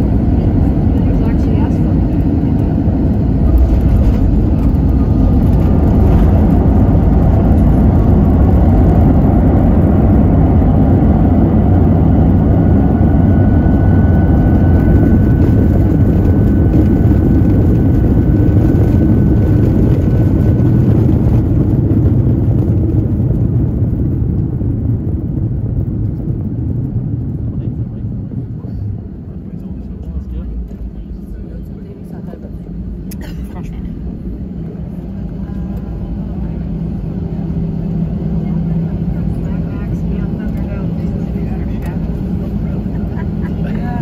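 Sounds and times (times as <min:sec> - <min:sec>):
jet engine and airflow rumble: 0:00.0 - 0:44.0.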